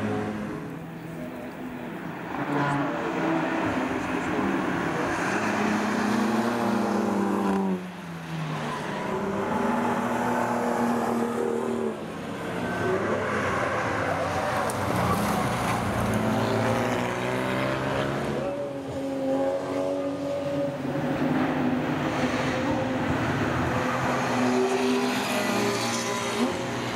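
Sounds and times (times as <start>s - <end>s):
racing car engines: 0.0s - 26.9s.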